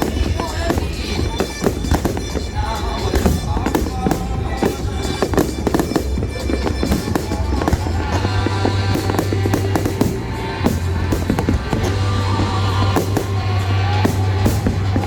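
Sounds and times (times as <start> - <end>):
fireworks bangs and crackles: 0.0 - 15.0
loud music with heavy bass: 0.0 - 15.0.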